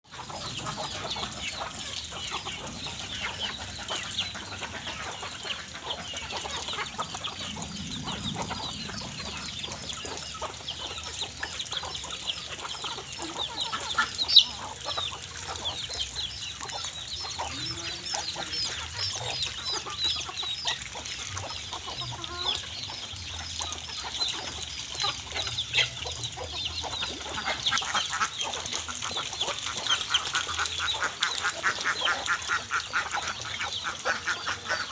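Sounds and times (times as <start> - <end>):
ducks calling: 0.1 - 34.9.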